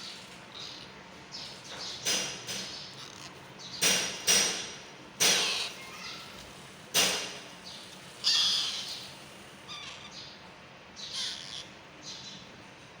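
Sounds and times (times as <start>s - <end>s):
parakeet chicks calling: 0.0s - 12.5s.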